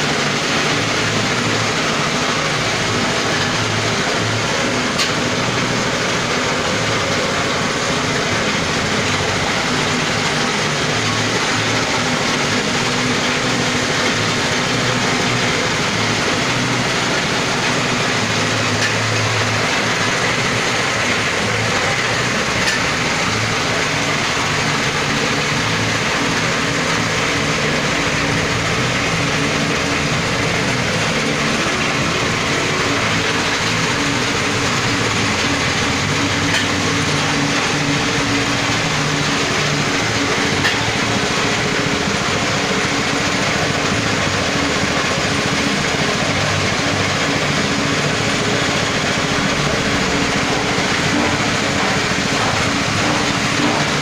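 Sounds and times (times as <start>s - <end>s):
husking machine mechanical noise: 0.0s - 54.0s
small petrol engine running: 0.0s - 54.0s.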